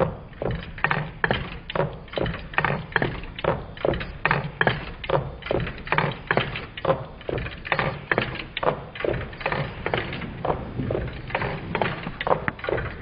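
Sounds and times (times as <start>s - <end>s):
stirling engine knocking: 0.0s - 13.0s.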